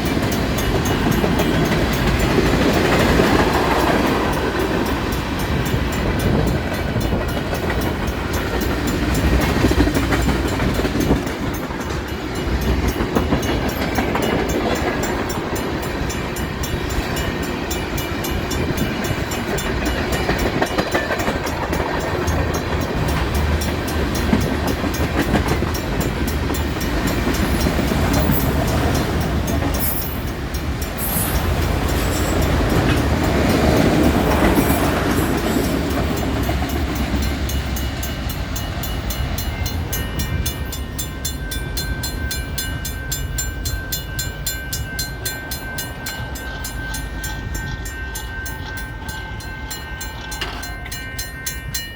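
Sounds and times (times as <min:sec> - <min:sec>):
steel wheels on rail: 0:00.0 - 0:51.9.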